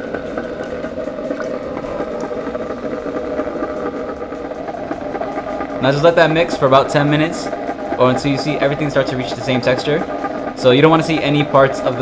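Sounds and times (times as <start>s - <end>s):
ice cream maker motor humming: 0.0s - 12.0s.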